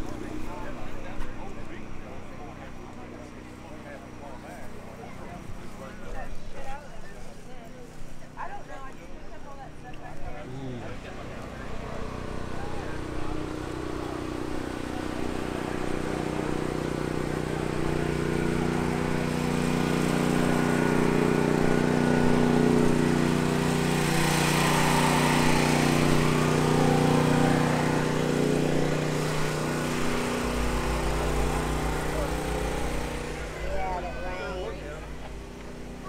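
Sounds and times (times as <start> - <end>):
engine running steadily: 0.0 - 36.0.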